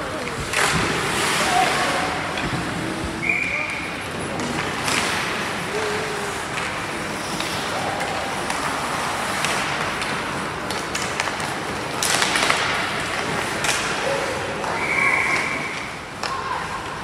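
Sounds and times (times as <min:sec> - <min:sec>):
murmur of voices: 0:00.0 - 0:10.6, 0:12.9 - 0:17.0
hockey sticks clacking: 0:00.0 - 0:17.0
skates scraping ice: 0:00.0 - 0:17.0.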